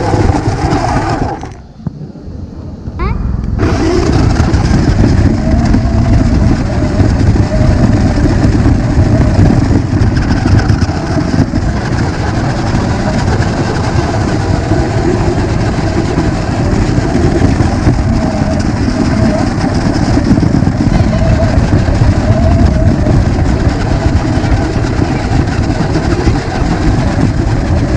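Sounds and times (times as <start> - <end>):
toy car motor rumble and rattle: 0.0 - 1.7, 3.6 - 27.9.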